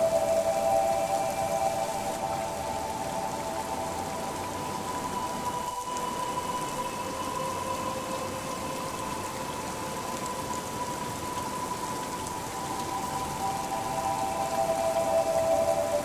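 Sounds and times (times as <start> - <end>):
gentle rain patter: 0.0 - 16.0
soft held musical tones: 0.0 - 16.0.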